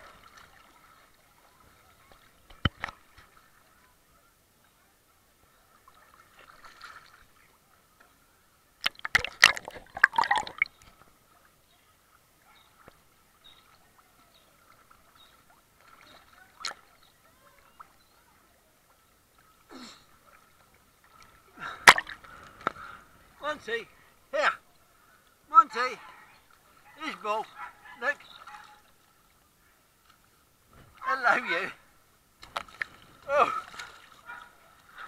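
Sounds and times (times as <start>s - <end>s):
pool water sloshing and splashing: 0.0s - 35.0s.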